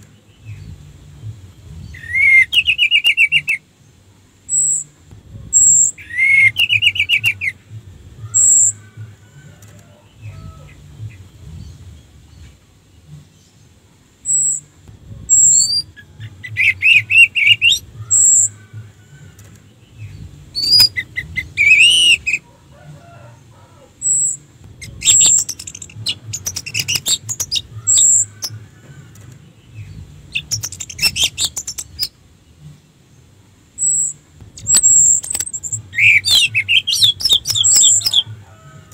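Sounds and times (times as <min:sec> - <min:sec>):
thrush singing: 0:00.0 - 0:38.9.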